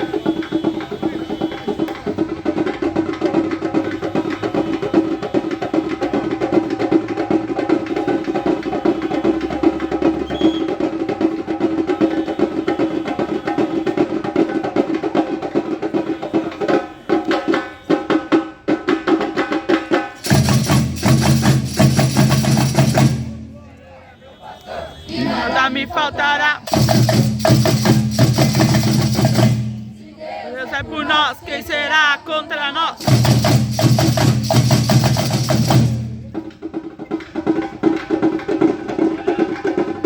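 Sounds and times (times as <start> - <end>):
fast dense percussion: 0.0 - 23.7, 25.6 - 30.0, 30.8 - 40.0.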